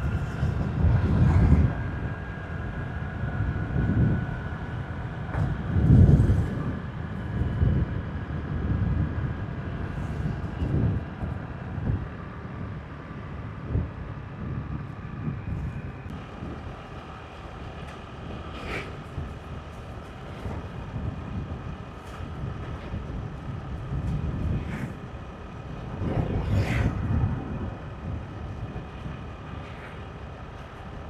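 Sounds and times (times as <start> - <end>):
motorbike engine hum: 0.0 - 31.0
road noise: 0.0 - 31.0
wind buffeting microphone: 0.0 - 31.0.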